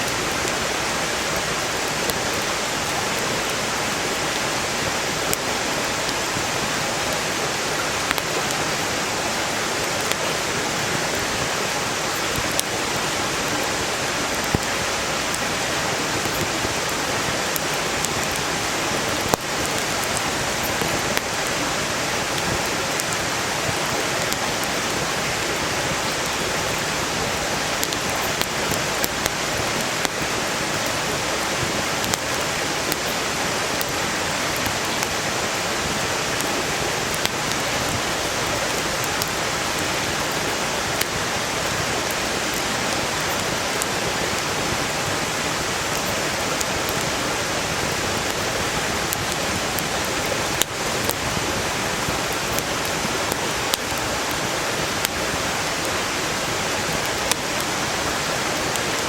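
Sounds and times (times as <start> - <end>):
campfire crackling and popping: 0.0 - 59.0
mountain stream rushing: 0.0 - 59.0.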